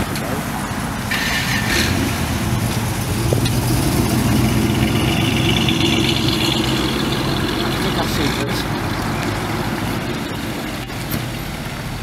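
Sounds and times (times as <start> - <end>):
car engine and exhaust driving past: 1.0 - 12.0.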